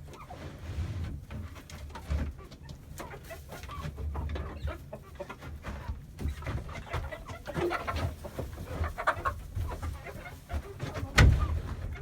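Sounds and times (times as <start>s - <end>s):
hens clucking: 1.2s - 12.0s.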